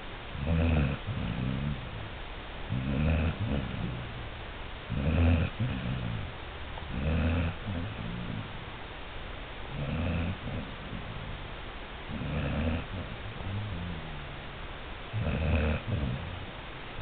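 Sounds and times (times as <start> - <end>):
animal snoring: 0.4 - 4.3, 4.9 - 8.7, 9.7 - 11.5, 12.1 - 16.6.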